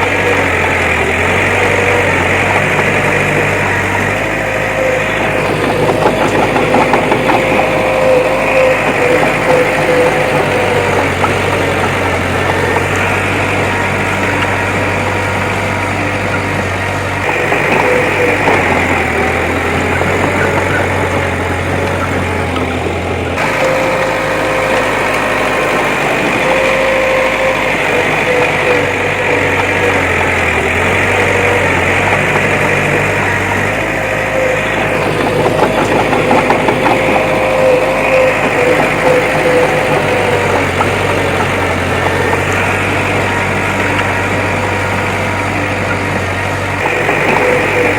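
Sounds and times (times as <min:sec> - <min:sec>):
heavy machinery engine running: 0:00.0 - 0:47.9
steady whining tone: 0:00.0 - 0:47.9.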